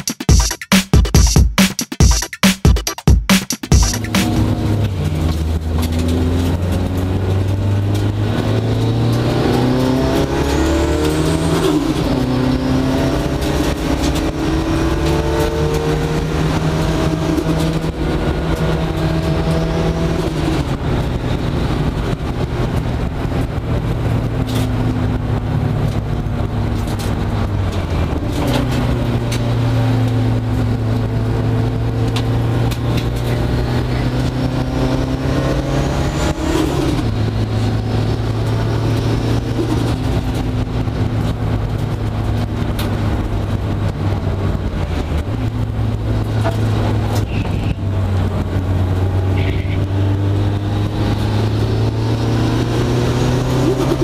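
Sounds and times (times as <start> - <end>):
race car engine revving: 3.7 - 54.0.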